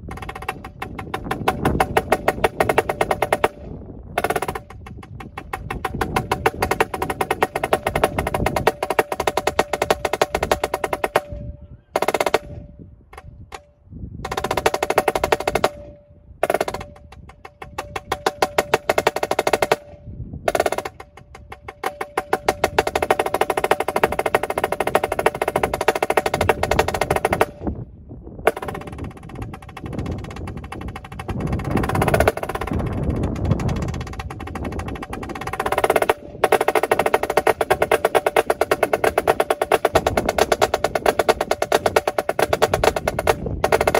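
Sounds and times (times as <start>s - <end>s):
snare drum rolls: 0.0s - 3.6s, 4.2s - 11.3s, 12.0s - 12.6s, 14.3s - 19.9s, 20.5s - 27.6s, 28.5s - 43.9s.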